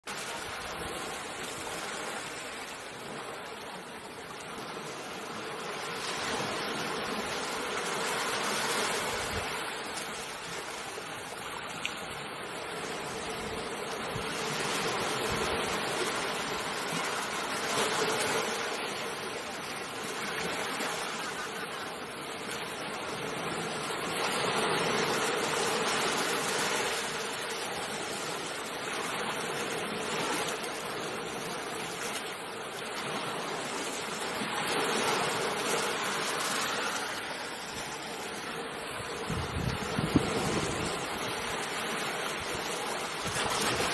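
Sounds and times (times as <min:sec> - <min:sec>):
ocean waves washing ashore: 0:00.1 - 0:43.9.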